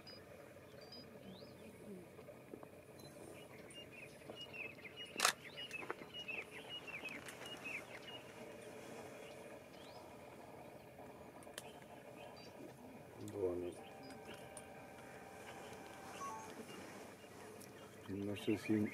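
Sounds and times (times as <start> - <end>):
outdoor background hiss: 0.0 - 18.9
small birds chirping: 0.0 - 18.9.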